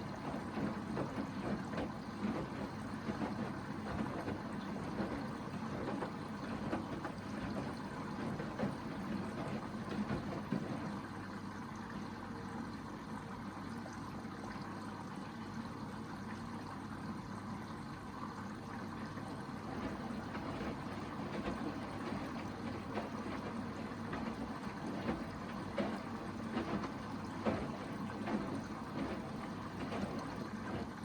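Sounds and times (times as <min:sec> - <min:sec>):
washing machine water sloshing: 0:00.0 - 0:31.0.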